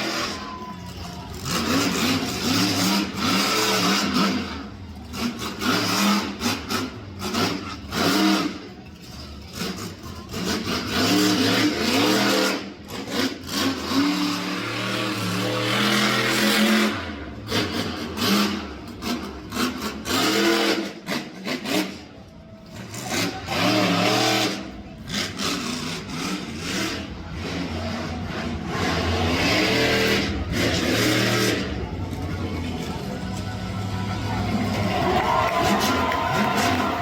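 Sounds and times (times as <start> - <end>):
monster truck engine revving: 0.0 - 37.0.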